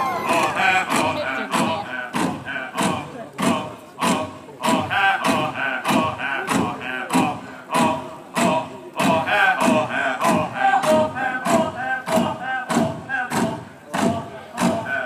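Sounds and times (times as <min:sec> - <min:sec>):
group singing a chant: 0:00.0 - 0:15.0
heavy thumping beat: 0:00.0 - 0:15.0.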